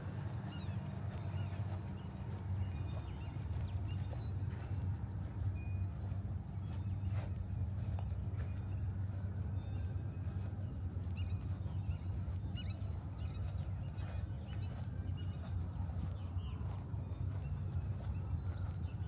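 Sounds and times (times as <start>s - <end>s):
footsteps on path: 0.0s - 19.0s.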